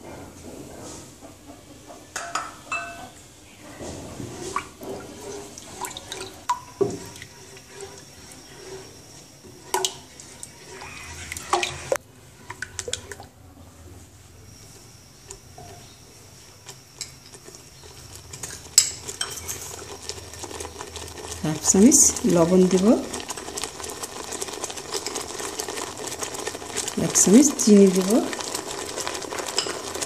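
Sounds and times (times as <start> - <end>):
spatula stirring liquid in saucepan: 3.6 - 13.3, 14.5 - 30.0.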